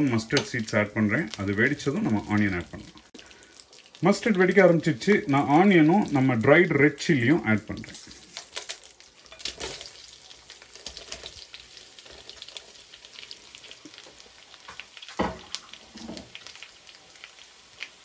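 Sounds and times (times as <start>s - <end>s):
mustard seeds crackling and popping: 0.0s - 18.0s
oil sizzling in a pan: 0.0s - 18.0s.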